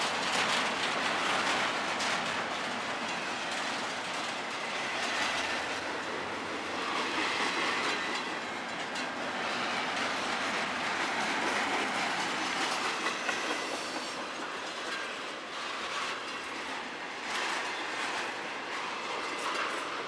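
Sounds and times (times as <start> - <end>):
freight train wheels on rails: 0.0 - 20.0
wheels clickety-clack: 0.0 - 20.0.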